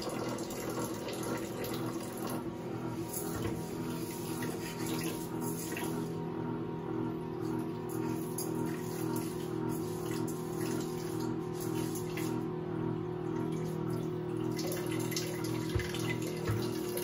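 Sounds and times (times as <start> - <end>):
pump motor hum: 0.0 - 17.0.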